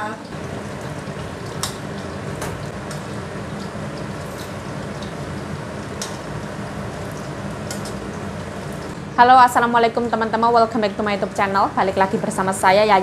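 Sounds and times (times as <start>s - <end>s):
fish cakes sizzling in oil: 0.2s - 13.0s.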